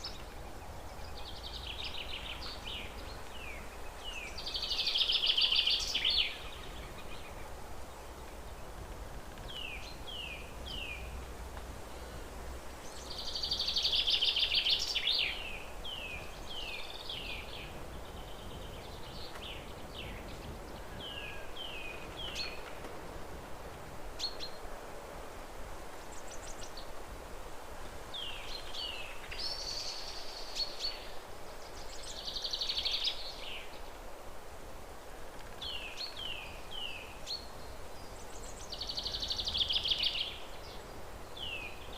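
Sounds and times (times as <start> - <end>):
songbirds singing: 0.0 - 25.0, 25.7 - 41.9
steady background hiss: 0.0 - 41.9.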